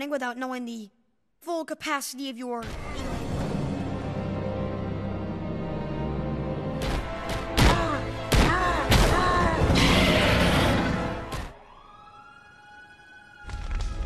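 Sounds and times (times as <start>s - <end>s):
dramatic film music: 2.6s - 14.0s.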